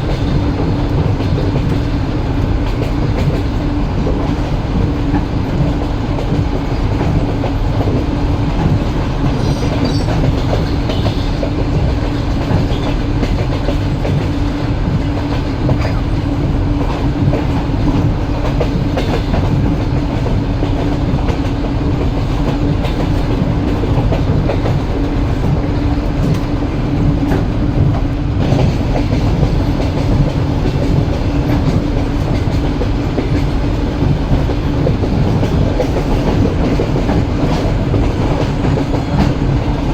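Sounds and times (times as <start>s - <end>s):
clickety-clack over rail joints: 0.0s - 39.9s
train wheels rumbling on track: 0.0s - 39.9s.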